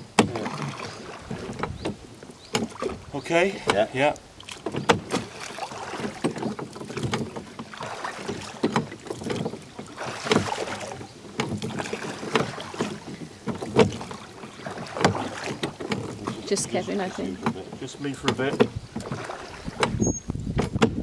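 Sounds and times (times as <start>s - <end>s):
oars dipping into water: 0.0s - 21.0s
oars knocking in rowlocks: 0.0s - 21.0s
water washing: 0.0s - 21.0s.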